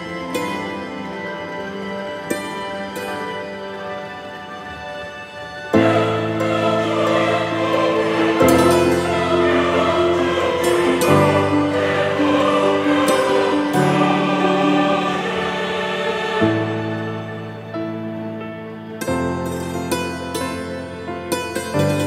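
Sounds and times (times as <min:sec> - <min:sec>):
choir-like voices over held chords: 0:00.0 - 0:22.0.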